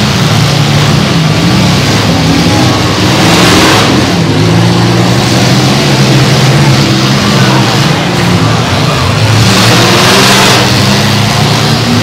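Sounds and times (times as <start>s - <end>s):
car engines revving: 0.0s - 12.0s
cars colliding: 0.0s - 12.0s.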